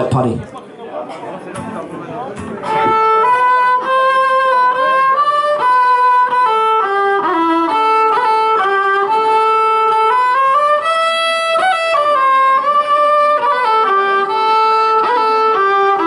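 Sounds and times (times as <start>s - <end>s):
amplified fiddle melody: 1.4s - 16.0s.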